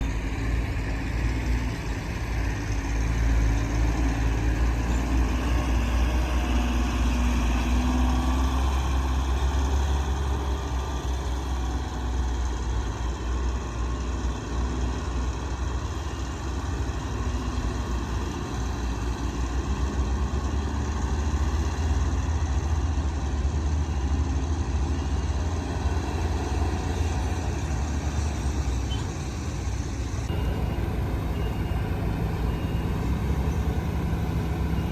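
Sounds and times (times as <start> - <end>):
heavy machinery diesel engines: 0.0 - 34.9.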